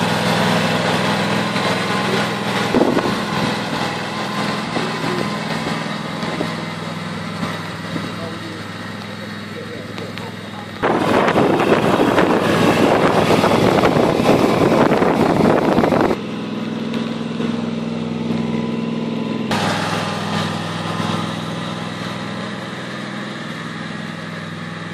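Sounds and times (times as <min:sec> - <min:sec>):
lawn tractor engine running: 0:00.0 - 0:24.9.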